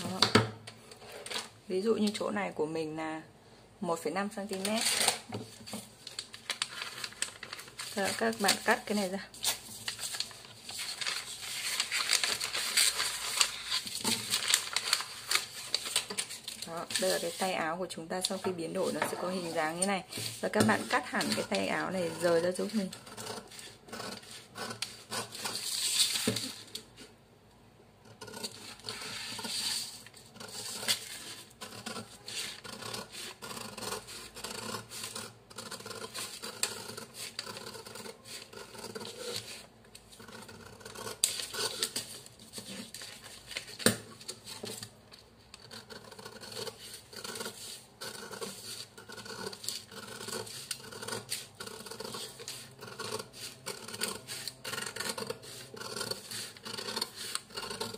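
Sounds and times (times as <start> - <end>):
paper scraping and rustling: 4.5 - 17.6, 18.2 - 27.0, 28.4 - 57.9
scissors snipping paper: 6.5 - 17.5, 18.2 - 26.6, 28.2 - 57.9.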